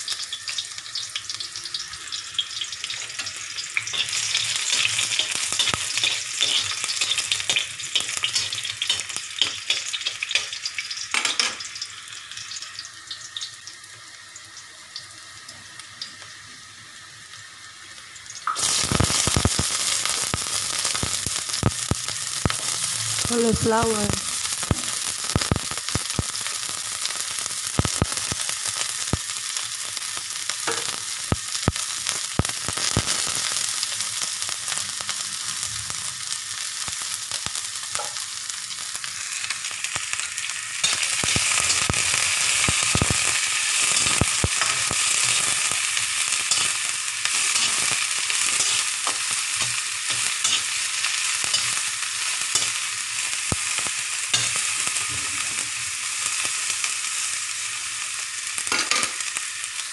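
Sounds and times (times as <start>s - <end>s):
vegetables sizzling in a wok: 0.0s - 59.9s.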